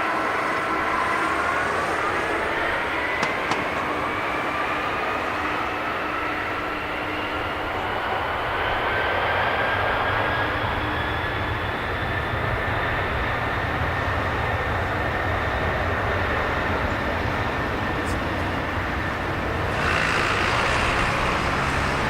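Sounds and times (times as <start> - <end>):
jet engines roaring and whining: 0.0 - 22.0.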